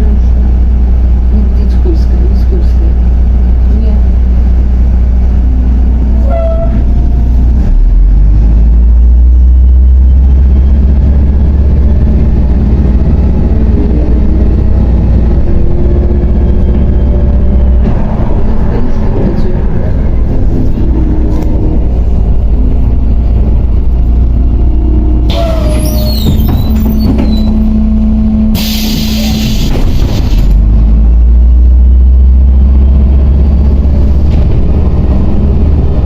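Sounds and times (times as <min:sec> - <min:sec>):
bus engine and road noise: 0:00.0 - 0:36.0.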